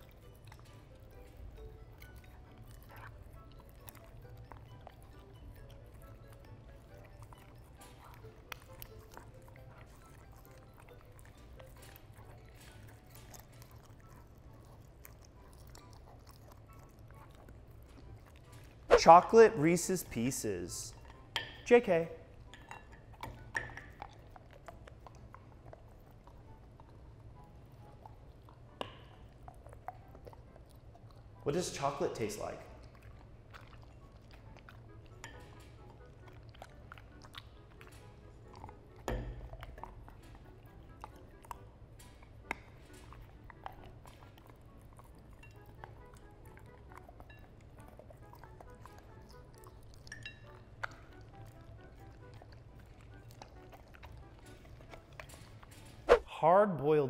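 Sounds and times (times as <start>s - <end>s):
dog chewing food clicks: 0.0s - 18.9s, 20.0s - 56.1s
soft background music: 0.0s - 57.0s.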